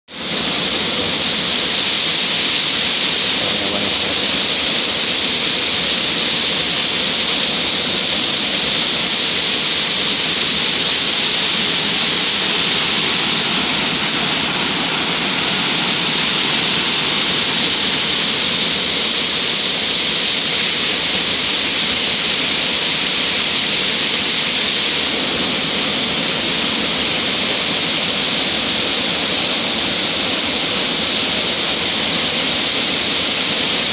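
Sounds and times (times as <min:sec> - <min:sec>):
water gushing onto rocks: 0:00.1 - 0:33.9.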